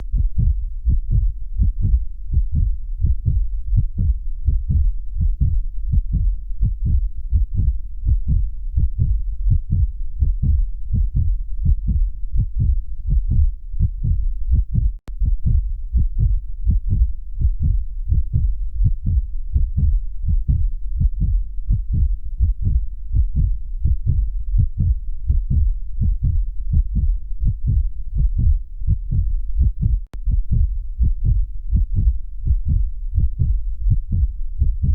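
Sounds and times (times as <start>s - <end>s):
heartbeat thumps: 0.0s - 34.9s.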